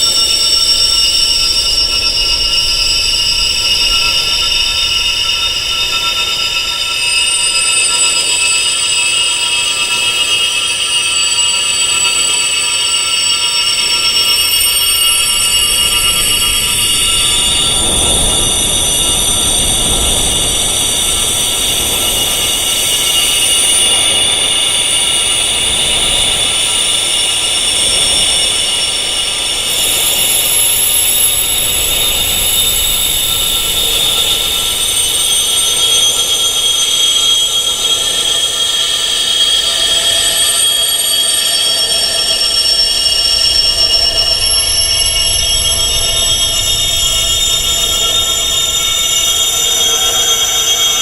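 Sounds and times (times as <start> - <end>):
high-pitched wind chimes ringing: 0.0 - 51.0.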